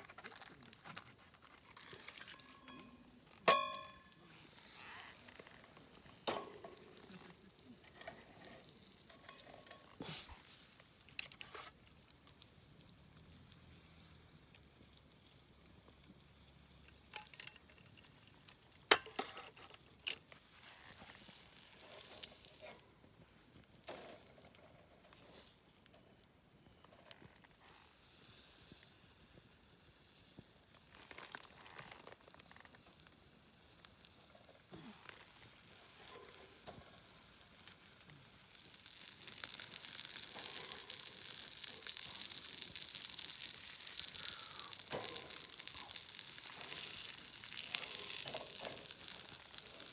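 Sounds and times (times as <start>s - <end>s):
faint crackle: 0.0s - 49.9s.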